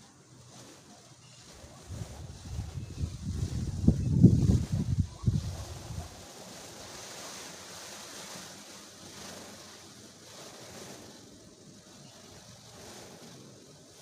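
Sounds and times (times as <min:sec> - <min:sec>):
rain hiss: 0:00.0 - 0:14.0
wind buffeting microphone: 0:00.2 - 0:14.0.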